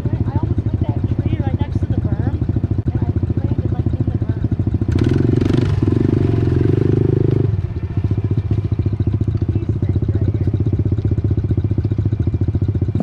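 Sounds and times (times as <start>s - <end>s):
pit bike engine running: 0.0s - 13.0s.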